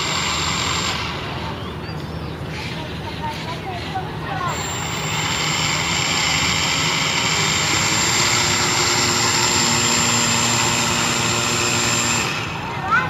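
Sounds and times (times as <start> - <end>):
model boat motor whining: 0.0 - 2.4, 3.6 - 13.0.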